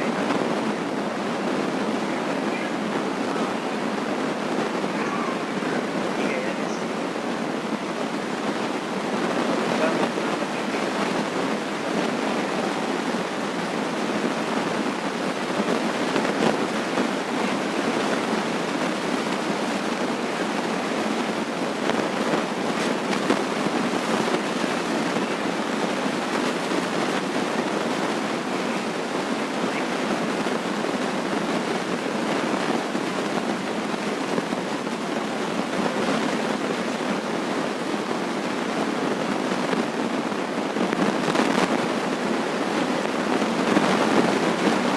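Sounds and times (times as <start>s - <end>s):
steady rushing noise: 0.0s - 44.9s.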